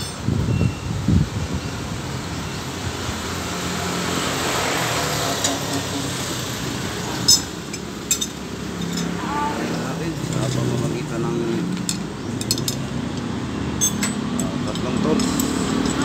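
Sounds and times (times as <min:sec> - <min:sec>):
street traffic passing: 0:00.0 - 0:16.0.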